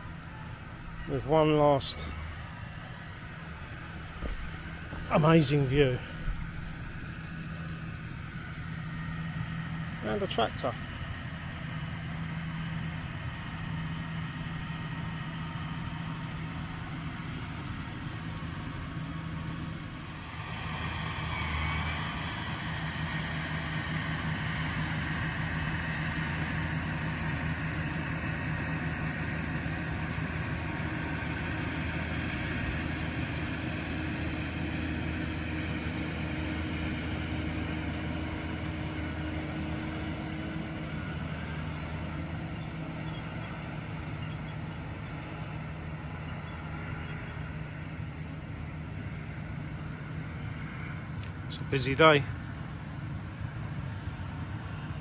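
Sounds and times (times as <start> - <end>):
tractor engine humming: 0.0 - 55.0.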